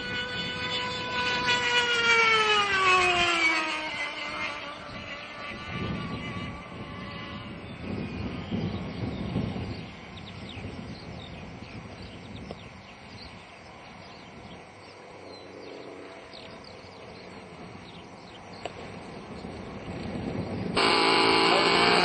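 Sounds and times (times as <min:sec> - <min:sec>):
distant model jet engine: 0:00.0 - 0:22.0.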